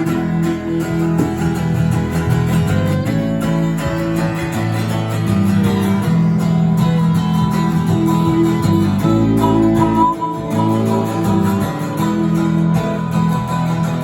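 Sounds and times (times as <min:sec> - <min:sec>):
bass line: 0:00.0 - 0:14.0
strummed acoustic guitar: 0:00.0 - 0:14.0.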